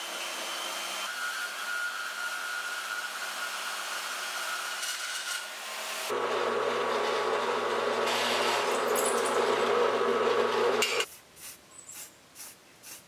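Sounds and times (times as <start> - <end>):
band saw cutting steel: 0.0 - 11.1.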